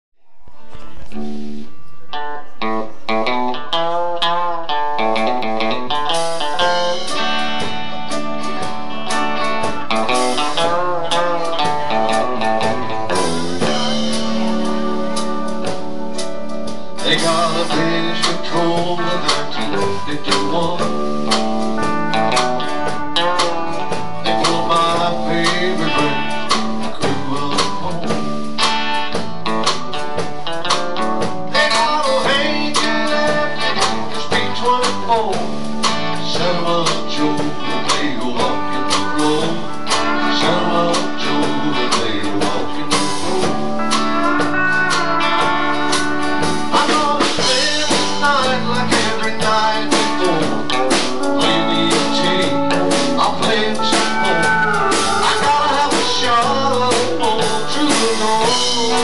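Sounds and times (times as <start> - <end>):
country band playing: 0.6 - 59.0.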